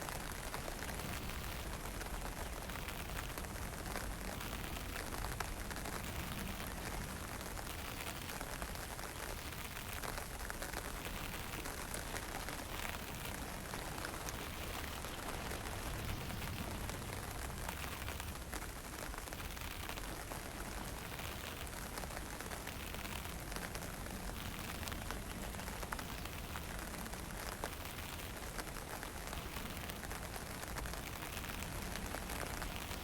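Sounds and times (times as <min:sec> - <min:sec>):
rain and drizzle falling: 0:00.0 - 0:33.0
wind: 0:00.0 - 0:33.0.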